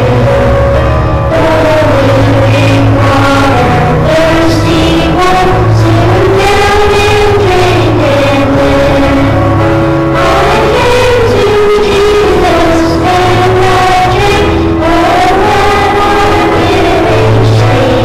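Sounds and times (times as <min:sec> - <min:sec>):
instrumental accompaniment: 0:00.0 - 0:18.0
voices singing a hymn: 0:00.0 - 0:18.0.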